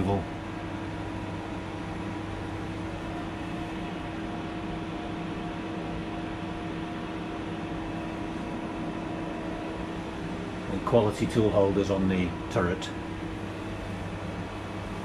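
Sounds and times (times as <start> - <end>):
machine hum with fixed tones: 0.0 - 15.0.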